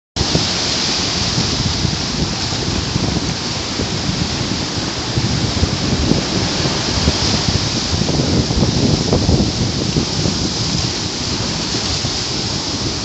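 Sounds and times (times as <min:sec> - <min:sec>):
sea surf washing on shore: 0:00.2 - 0:13.0
wind rumbling on microphone: 0:00.2 - 0:13.0.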